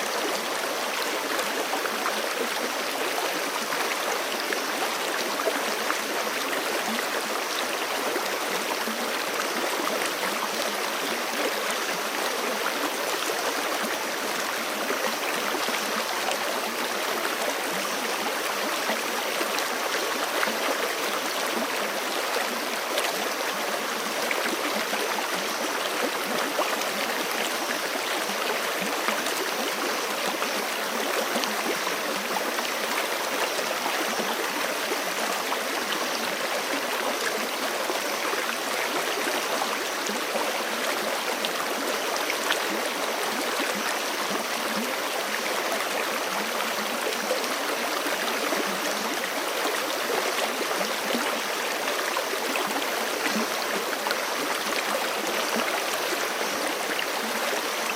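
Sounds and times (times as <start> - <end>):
creek water rushing over rocks: 0.0 - 57.9.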